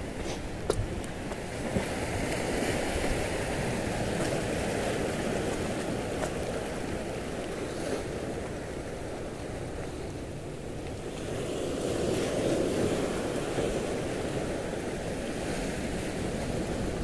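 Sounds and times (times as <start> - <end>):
surf rushing over reef: 0.0 - 17.0.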